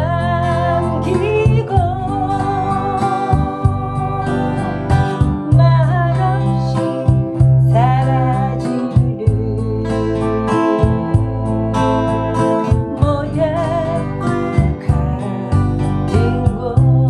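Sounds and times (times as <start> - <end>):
acoustic guitar: 0.0 - 17.0
woman singing a slow ballad: 0.0 - 17.0.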